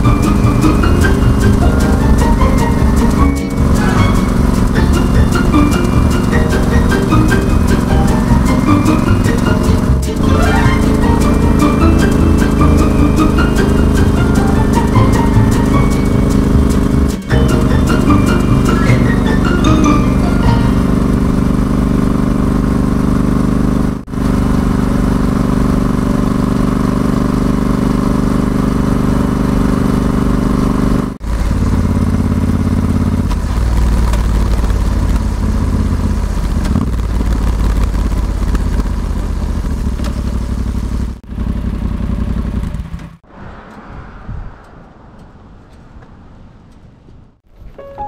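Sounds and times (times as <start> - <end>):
motorcycle engine running: 0.0 - 43.2.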